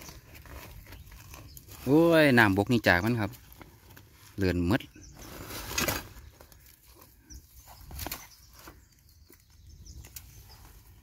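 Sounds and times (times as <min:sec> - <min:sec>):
rustling dry grass: 0:00.0 - 0:11.0.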